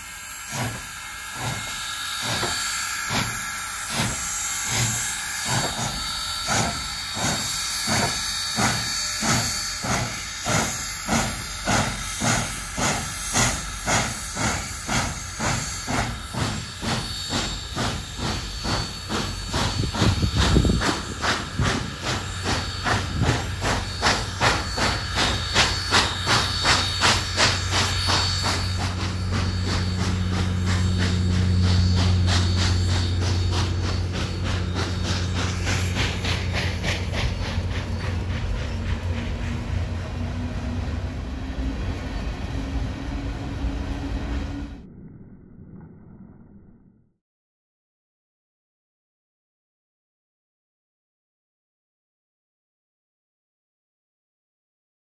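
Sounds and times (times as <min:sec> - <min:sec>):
hissing steam: 0:00.0 - 0:44.3
steam locomotive exhaust chuffs: 0:00.0 - 0:44.8
train cars rolling past: 0:00.0 - 0:44.9.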